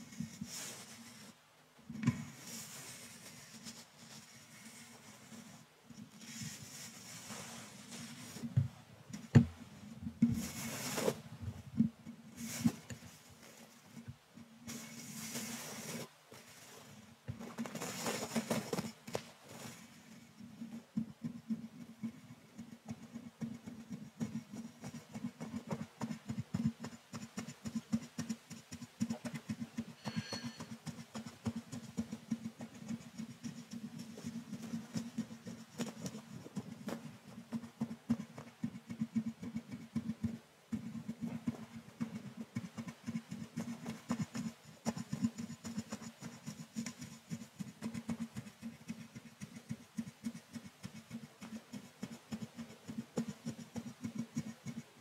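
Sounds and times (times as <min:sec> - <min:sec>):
brush scratching microphone grille: 0:00.0 - 0:01.4, 0:02.2 - 0:55.0.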